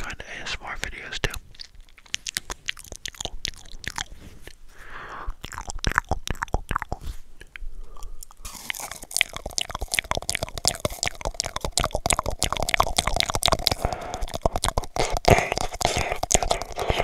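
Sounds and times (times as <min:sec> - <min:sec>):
wet mouth sounds: 0:00.7 - 0:17.0
tongue clicks: 0:01.2 - 0:04.6, 0:05.3 - 0:17.0
lip smacks: 0:01.2 - 0:17.0.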